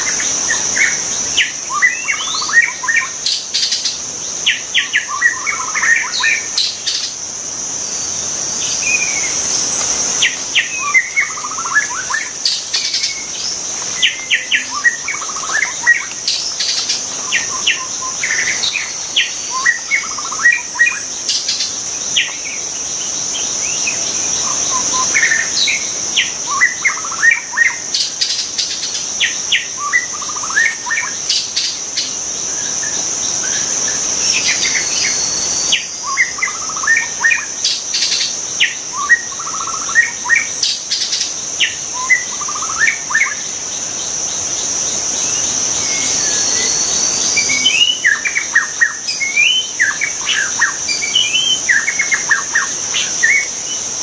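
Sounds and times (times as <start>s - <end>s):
bird singing whistled notes: 0.0s - 7.2s, 8.6s - 54.0s
high-pitched insect drone: 0.0s - 54.0s.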